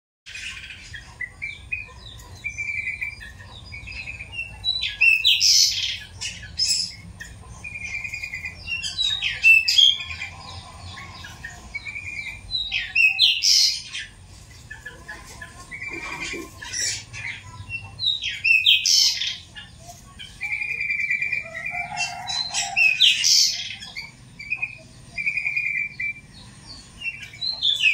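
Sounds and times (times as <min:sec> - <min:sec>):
bird chattering song: 0:00.3 - 0:27.9.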